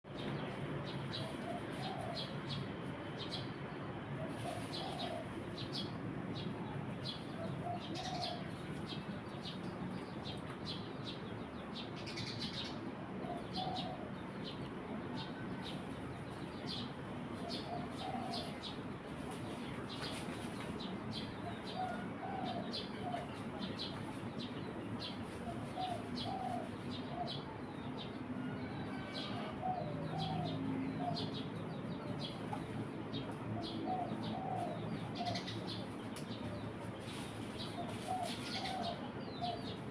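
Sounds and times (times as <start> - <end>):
sparrows chirping: 0.1 - 39.9.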